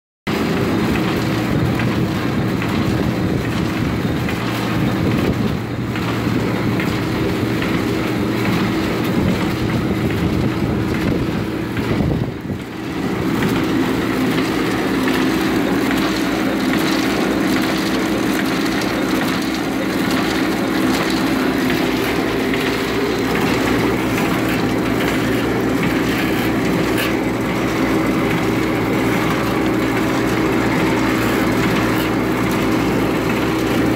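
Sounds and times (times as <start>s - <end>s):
continuous mechanical clatter: 0.3s - 33.9s
machine motor hum: 0.3s - 33.9s.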